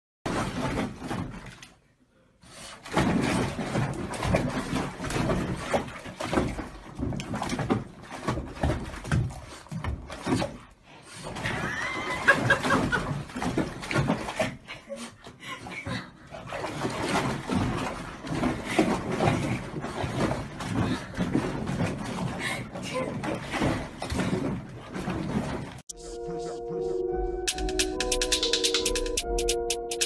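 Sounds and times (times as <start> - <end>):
bathwater splashing and sloshing: 0.3 - 26.8.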